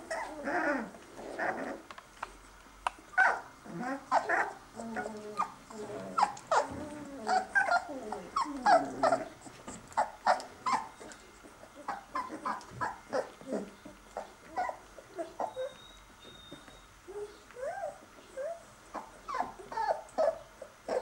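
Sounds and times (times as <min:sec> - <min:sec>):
puppies whimpering and squeaking: 0:00.0 - 0:01.8, 0:03.1 - 0:21.0.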